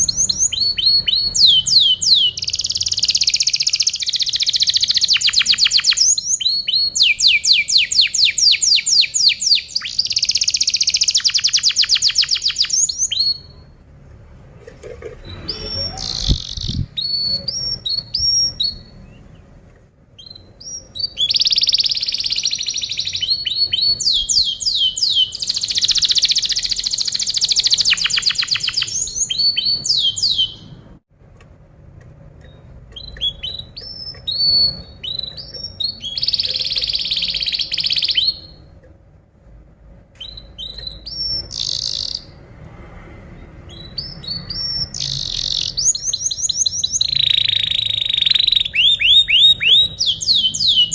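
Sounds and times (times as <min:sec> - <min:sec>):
canary singing: 0:00.0 - 0:13.9, 0:15.2 - 0:31.0, 0:32.4 - 0:38.8, 0:40.1 - 0:42.4, 0:43.4 - 0:50.9.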